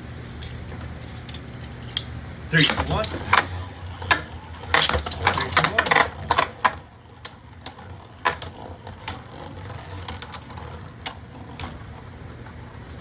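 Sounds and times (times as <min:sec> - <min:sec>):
spinning tops whirring: 0:01.1 - 0:13.0
spinning tops clicking together: 0:01.2 - 0:12.0.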